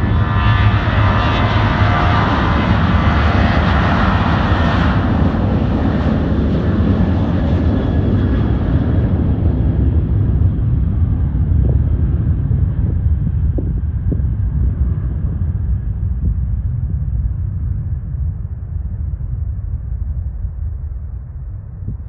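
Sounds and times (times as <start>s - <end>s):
jet airliner taking off: 0.0s - 22.0s.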